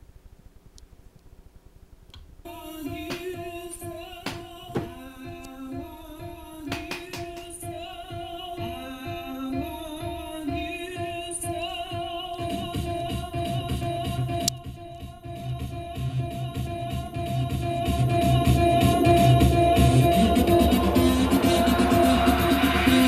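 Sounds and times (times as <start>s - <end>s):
dance music over speakers: 2.5s - 23.0s
woman singing: 2.5s - 23.0s.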